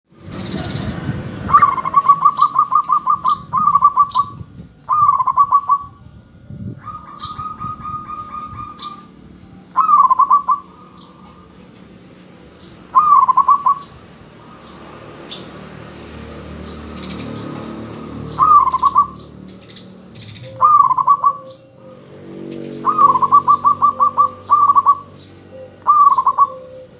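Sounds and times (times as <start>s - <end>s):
dove cooing: 0.4s - 14.8s, 17.2s - 19.5s, 20.1s - 26.9s.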